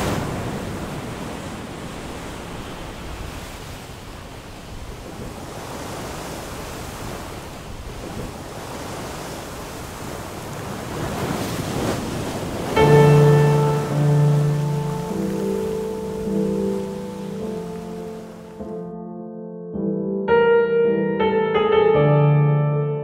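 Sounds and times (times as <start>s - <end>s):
sea waves washing: 0.0s - 18.8s.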